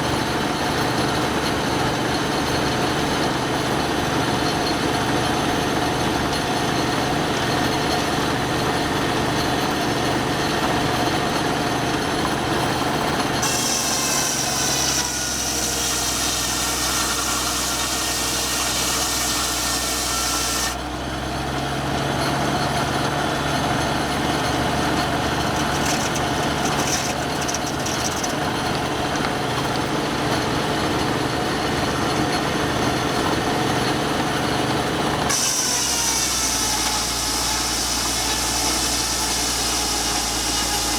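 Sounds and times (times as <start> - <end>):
saw blade whining through wood: 0.0 - 40.9
sawmill saw spinning: 0.0 - 40.9.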